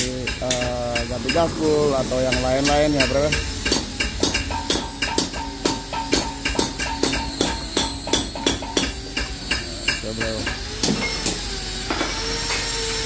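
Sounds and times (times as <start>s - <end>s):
drill press boring into metal: 0.2s - 13.0s.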